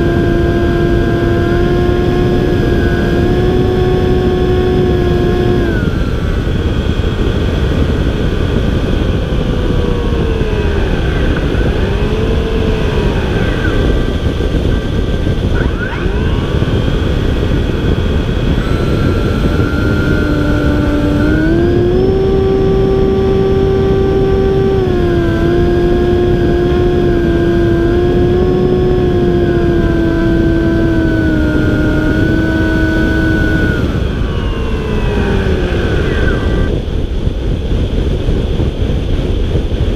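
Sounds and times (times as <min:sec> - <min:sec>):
model airplane motor whine: 0:00.0 - 0:39.4
wind rushing on microphone: 0:00.0 - 0:39.9.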